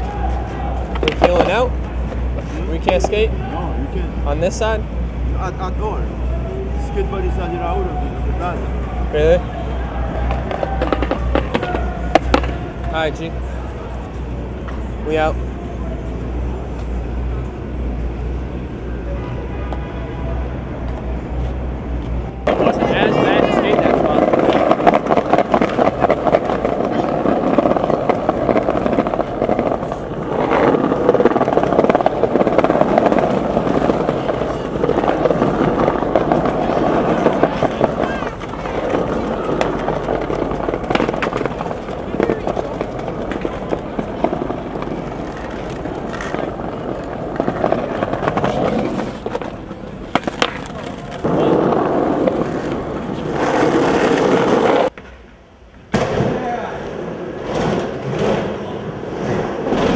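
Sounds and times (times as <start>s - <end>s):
skateboard wheels rolling on pavement: 0.0s - 59.9s.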